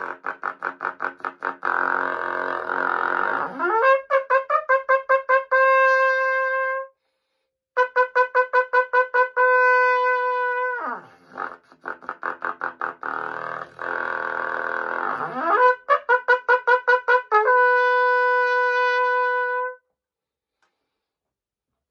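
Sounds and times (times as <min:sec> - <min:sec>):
trumpet playing repeated notes: 0:00.0 - 0:06.9, 0:07.8 - 0:19.8.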